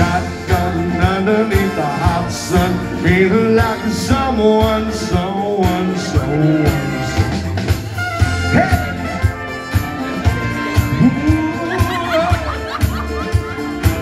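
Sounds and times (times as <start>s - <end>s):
brass-like lead melody: 0.0s - 14.0s.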